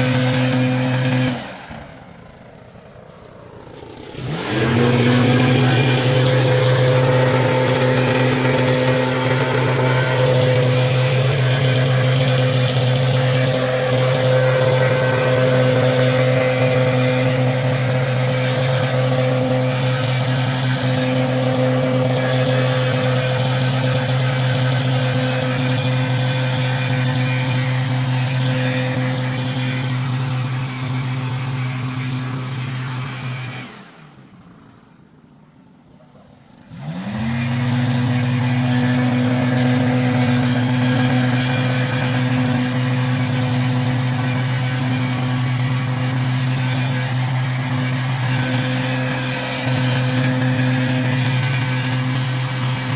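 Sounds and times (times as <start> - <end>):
leaf blower running: 0.0 - 52.9.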